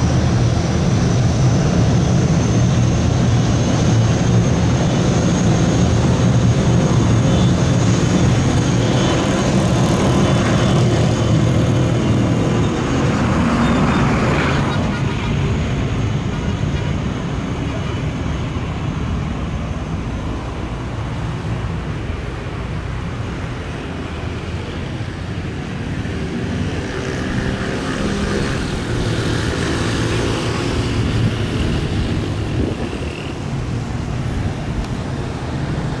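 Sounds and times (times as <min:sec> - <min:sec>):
jet engines rumbling and whining: 0:00.0 - 0:36.0.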